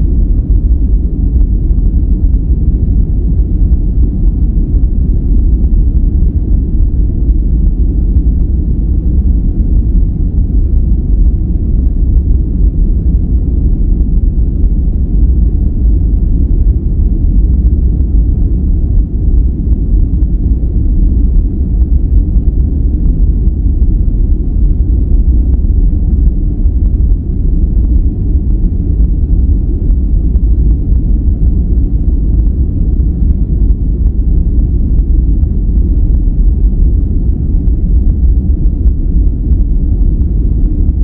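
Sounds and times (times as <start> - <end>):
deep rumbling noise: 0.0 - 41.0.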